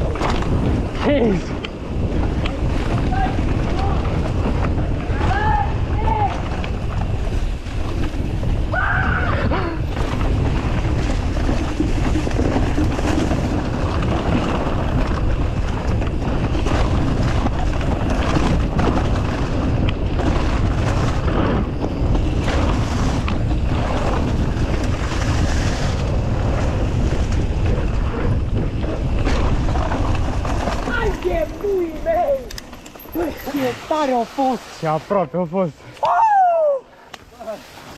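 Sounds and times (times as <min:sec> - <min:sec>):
bike knocks and rattles: 0:00.0 - 0:08.8, 0:09.4 - 0:33.8
wind buffeting microphone: 0:00.0 - 0:34.7.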